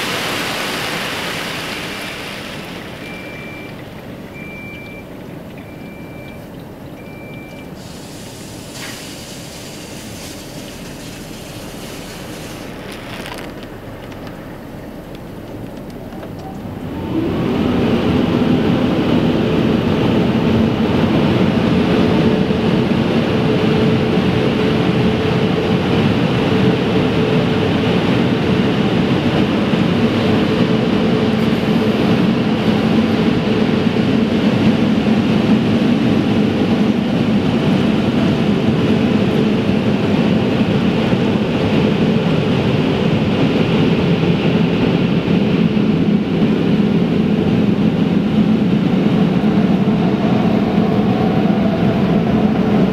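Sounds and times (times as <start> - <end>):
car wash machinery droning: 0.0 - 52.9.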